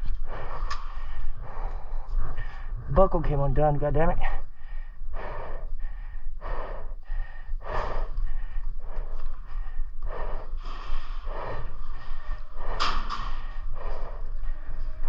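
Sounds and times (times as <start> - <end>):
man breathing hard: 0.0 - 3.4, 4.0 - 15.0.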